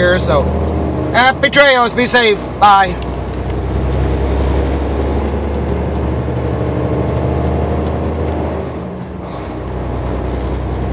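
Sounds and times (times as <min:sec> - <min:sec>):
road noise: 0:00.0 - 0:10.9
truck diesel engine drone: 0:00.0 - 0:10.9.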